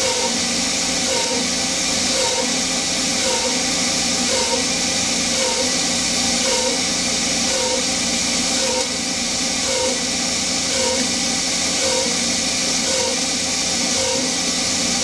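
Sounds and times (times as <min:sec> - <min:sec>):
lathe machine noise: 0:00.0 - 0:15.0.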